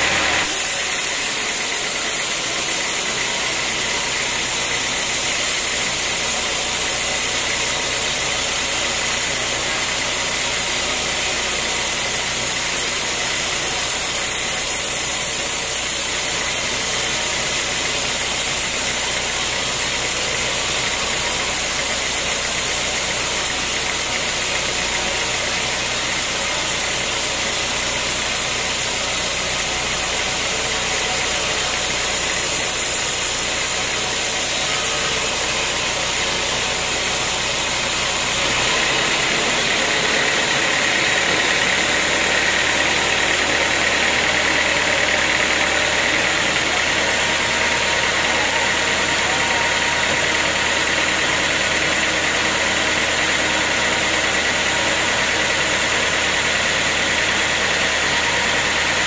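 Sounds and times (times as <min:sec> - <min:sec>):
band sawmill cutting log: 0:00.0 - 0:59.0.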